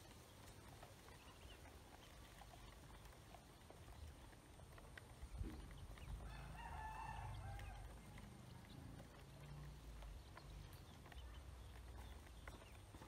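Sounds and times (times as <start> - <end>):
ducklings pecking in plastic basin: 0.0 - 13.0.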